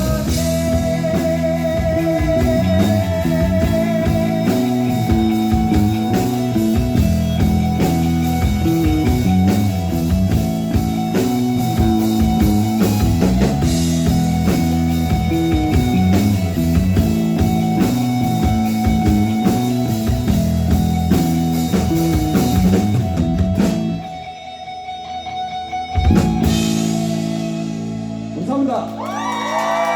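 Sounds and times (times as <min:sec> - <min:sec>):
low bass line: 0:00.0 - 0:24.3
drum kit: 0:00.0 - 0:29.9
electric guitar: 0:00.0 - 0:29.9.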